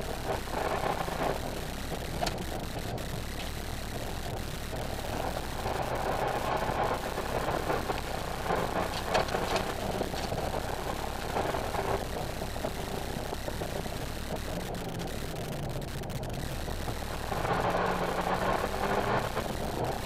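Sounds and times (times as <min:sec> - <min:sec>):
car engine running hard: 0:00.0 - 0:20.0
road and tyre noise: 0:00.0 - 0:20.0.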